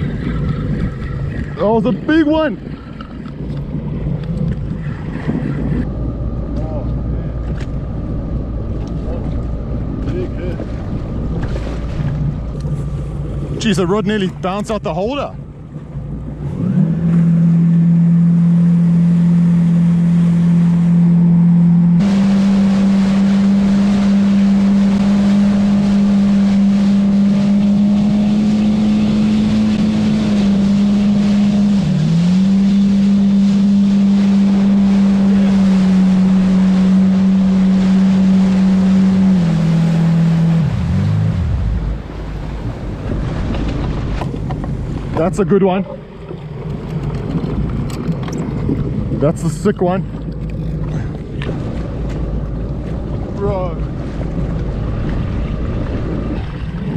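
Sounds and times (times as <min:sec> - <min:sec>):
jet ski engine running: 0:00.0 - 0:56.9
rushing wind and water: 0:00.0 - 0:56.9.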